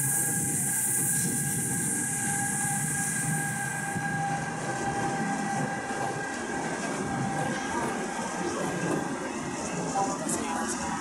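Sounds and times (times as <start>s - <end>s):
freight train rolling rumble: 0.0s - 11.0s
thin steady whine: 0.0s - 11.0s.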